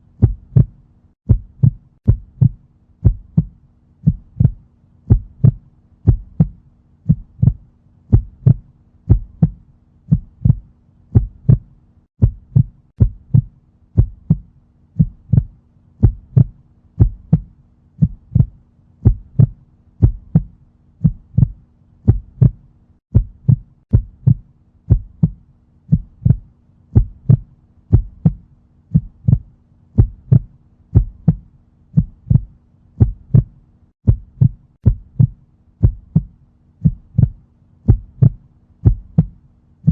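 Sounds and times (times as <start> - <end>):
heartbeat thumps: 0.1 - 39.9.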